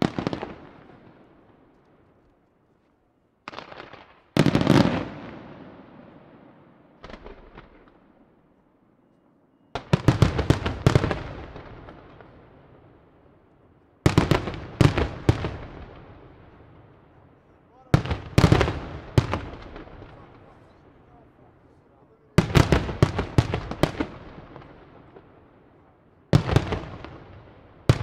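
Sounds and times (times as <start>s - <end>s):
fireworks bursting with bangs: 0.0s - 1.7s, 3.4s - 8.2s, 9.7s - 13.0s, 14.0s - 28.0s.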